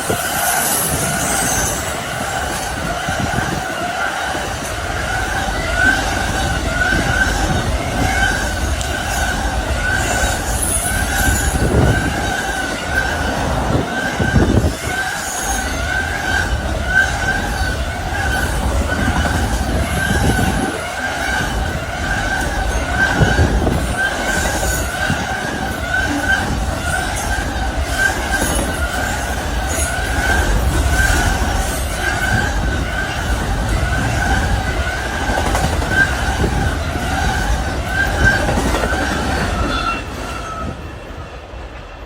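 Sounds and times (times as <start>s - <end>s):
train rumbling by: 0.0s - 42.0s.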